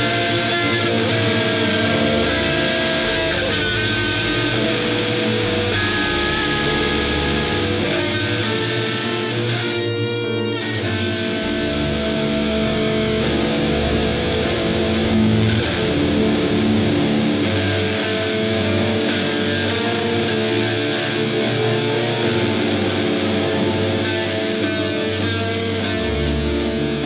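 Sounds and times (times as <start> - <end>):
bass line: 0.0 - 27.0
distorted electric guitar: 0.0 - 27.0.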